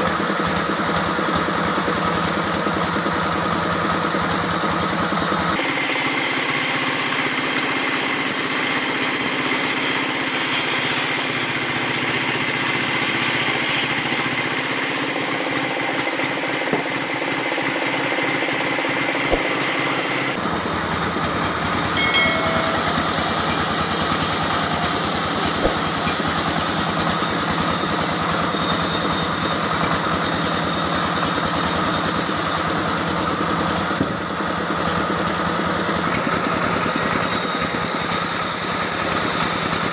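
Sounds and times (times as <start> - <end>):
sawmill motor and saw drone: 0.0 - 39.9.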